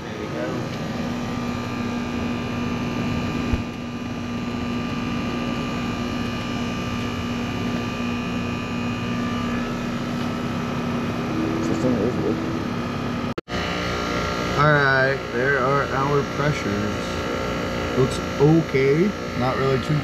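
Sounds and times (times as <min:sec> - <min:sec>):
air conditioner hum and whoosh: 0:00.0 - 0:20.0.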